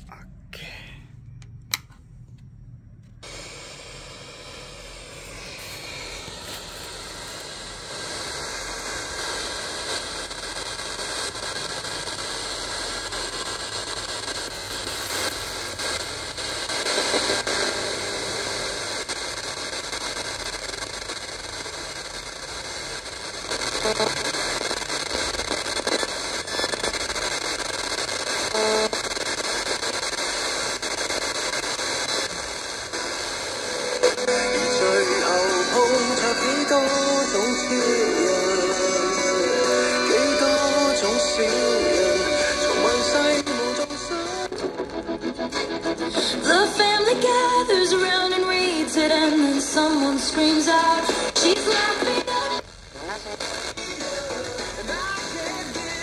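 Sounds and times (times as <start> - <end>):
radio static hiss: 3.2 - 56.0.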